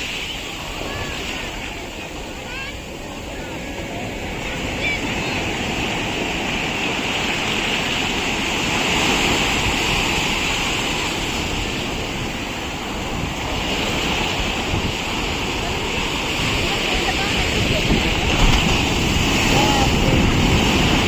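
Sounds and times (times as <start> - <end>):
sea waves breaking on beach: 0.0 - 21.0.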